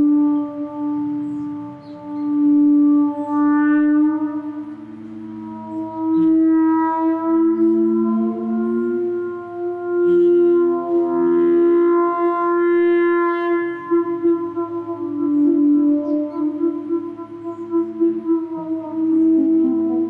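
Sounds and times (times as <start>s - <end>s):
theremin music: 0.0s - 20.0s.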